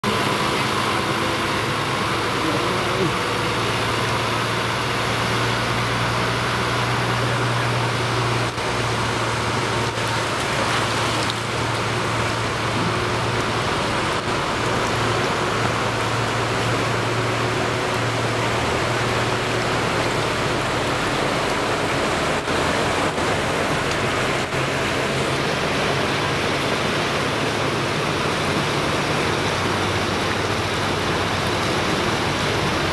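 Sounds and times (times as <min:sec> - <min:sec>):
rushing water: 0:00.0 - 0:32.9
truck engine humming: 0:00.0 - 0:32.9.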